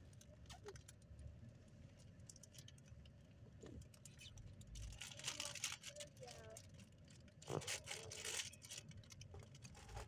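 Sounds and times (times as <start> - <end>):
faint rain pattering: 0.0 - 10.0.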